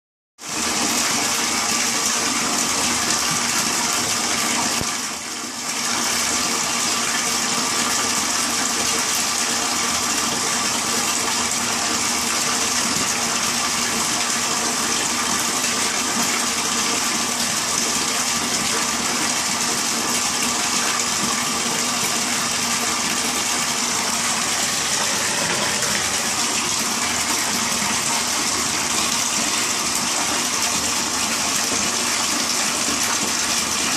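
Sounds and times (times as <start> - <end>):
water running into shower tub: 0.4 - 33.9.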